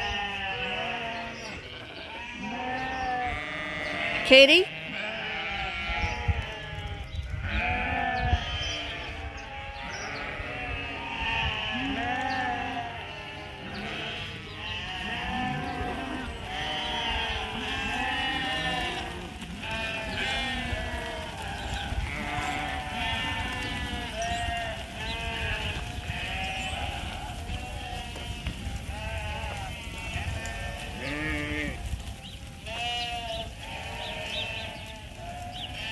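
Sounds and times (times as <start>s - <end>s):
sheep bleating: 0.0s - 32.0s, 32.6s - 35.9s.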